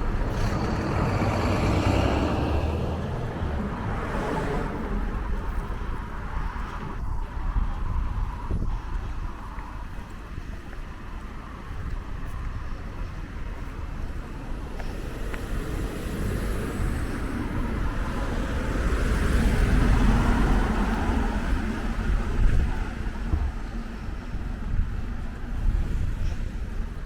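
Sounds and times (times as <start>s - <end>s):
road vehicle passing: 0.0s - 27.0s.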